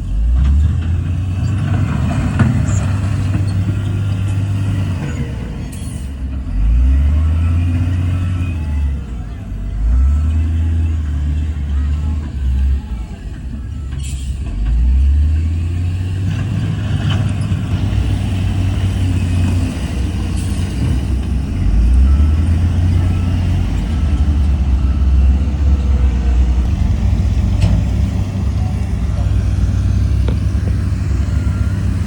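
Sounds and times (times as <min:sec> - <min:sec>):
heavy diesel machinery rumbling: 0:00.0 - 0:32.0.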